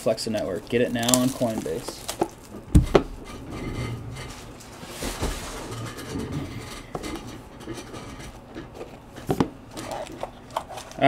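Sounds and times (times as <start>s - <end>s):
plastic wrap rustling: 0.0s - 11.0s.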